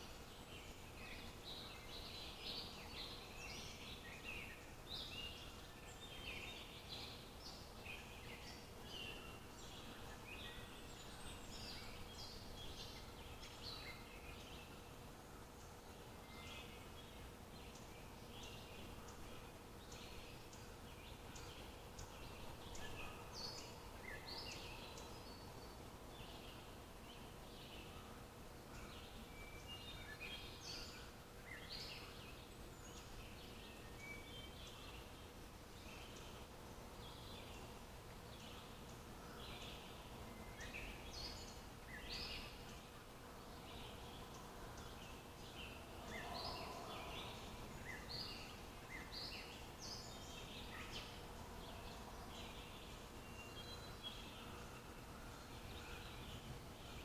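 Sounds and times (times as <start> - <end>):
low background hiss and hum: 0.0 - 57.0
songbirds chirping: 0.0 - 57.0.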